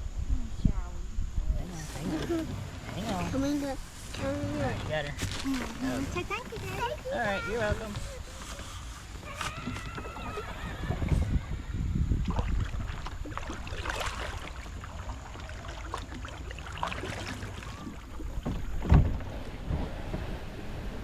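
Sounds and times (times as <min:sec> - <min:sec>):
wind on microphone: 0:00.0 - 0:15.2, 0:17.3 - 0:21.0
paddle splashing: 0:01.7 - 0:21.0.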